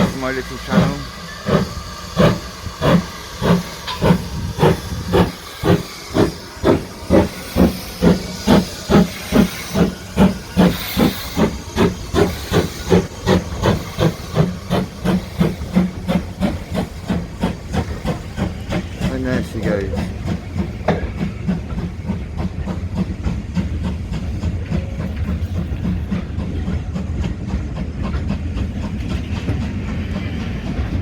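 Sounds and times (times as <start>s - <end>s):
steam locomotive chuffing: 0.0s - 31.0s.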